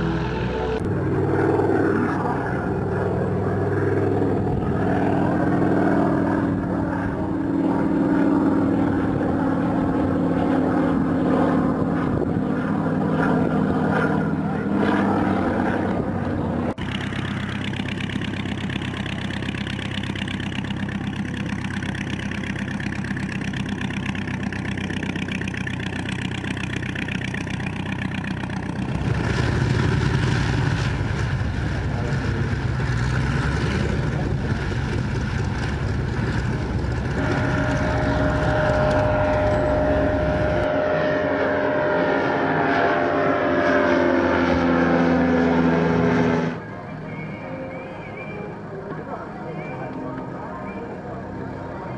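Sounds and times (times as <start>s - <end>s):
propeller aircraft engine running: 0.0s - 51.9s.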